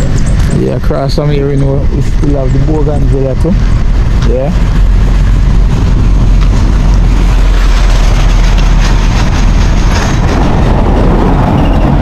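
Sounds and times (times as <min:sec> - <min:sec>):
steady low rumble with hiss: 0:00.0 - 0:12.0.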